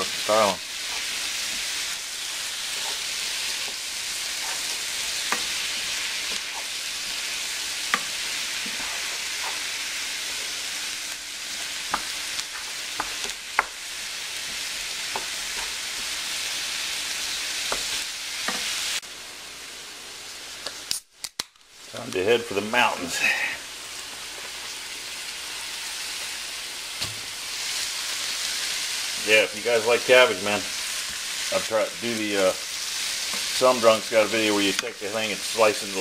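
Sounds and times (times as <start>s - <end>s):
vegetables sizzling in a skillet: 0.0s - 21.0s, 21.7s - 36.0s.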